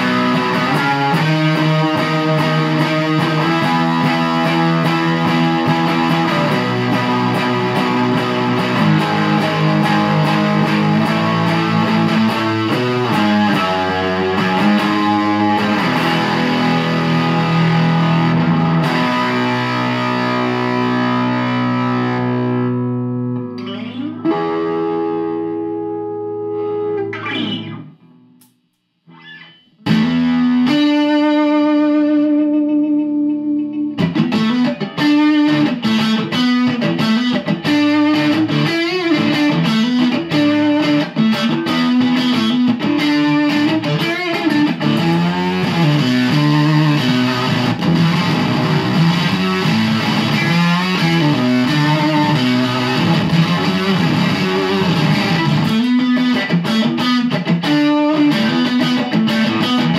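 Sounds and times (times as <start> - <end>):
electric guitar riffing: 0.0 - 28.5, 29.1 - 59.9.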